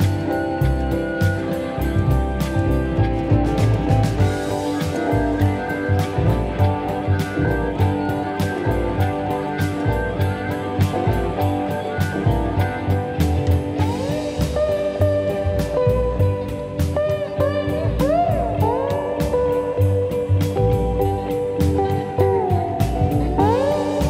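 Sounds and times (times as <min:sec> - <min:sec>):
blues guitar music with drums: 0:00.0 - 0:24.0.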